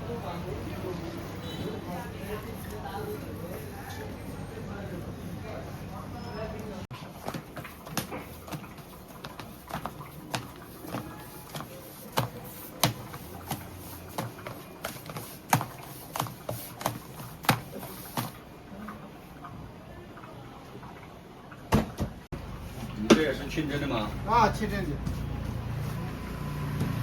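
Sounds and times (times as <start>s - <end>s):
low background murmur: 0.0s - 21.7s.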